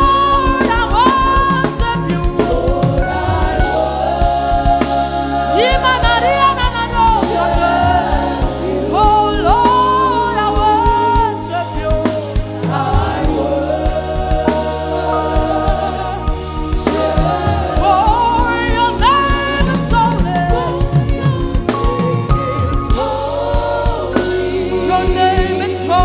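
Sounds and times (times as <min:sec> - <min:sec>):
instrumental chords and bass: 0:00.0 - 0:26.0
voices singing gospel: 0:00.0 - 0:26.0.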